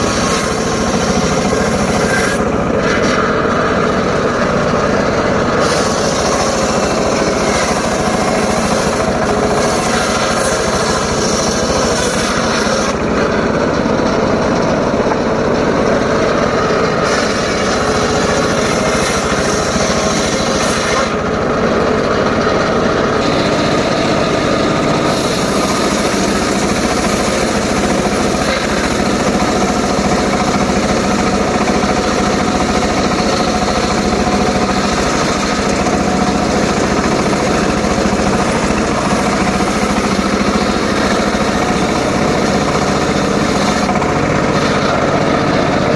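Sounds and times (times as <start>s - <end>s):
circular saw cutting wood: 0.0s - 45.9s.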